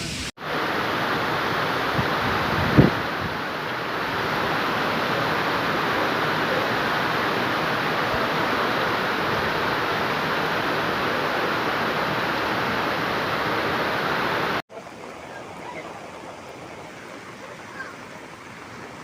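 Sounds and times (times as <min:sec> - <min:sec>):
fast-flowing floodwater rushing: 0:00.0 - 0:19.0.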